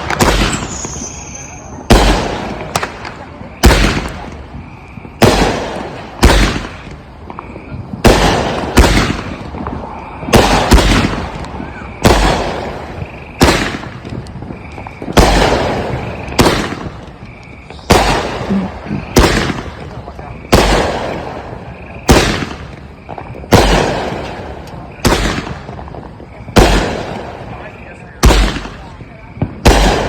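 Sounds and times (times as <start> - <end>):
fireworks banging with echo: 0.0 - 30.0.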